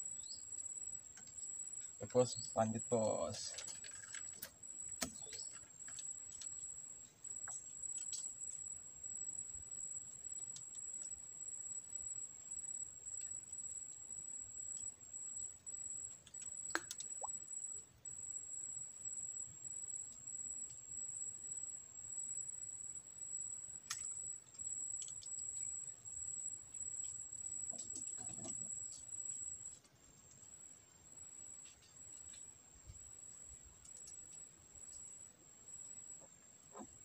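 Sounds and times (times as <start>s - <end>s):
insects buzzing: 0.0s - 37.0s.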